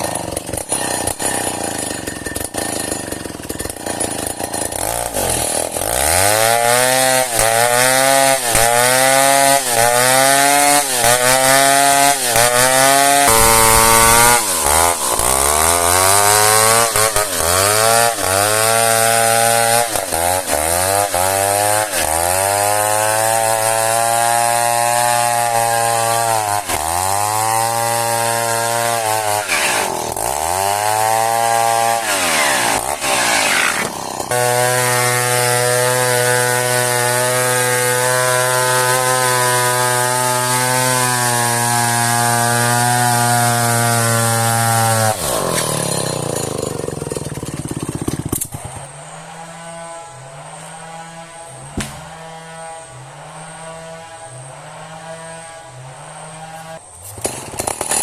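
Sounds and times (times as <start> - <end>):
chainsaw cutting into log: 0.0 - 58.0.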